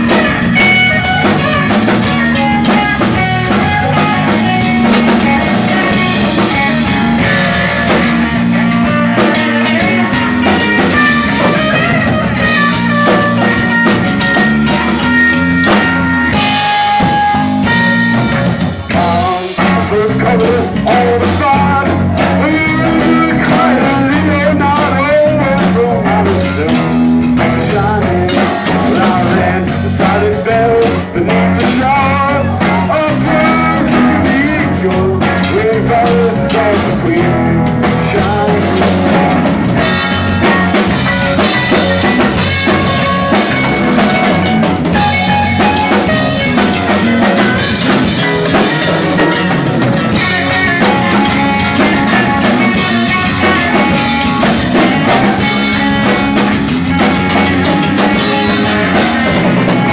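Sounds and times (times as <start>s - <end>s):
bending lead guitar line: 0.0s - 59.9s
rock band playing: 0.0s - 59.9s.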